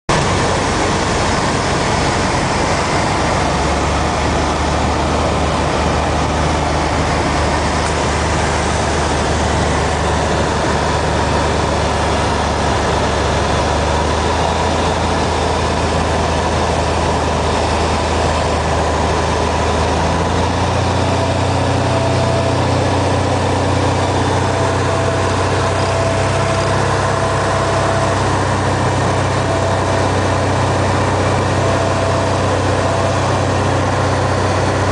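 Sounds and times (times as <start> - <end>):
propeller plane engine droning: 0.1 - 34.9.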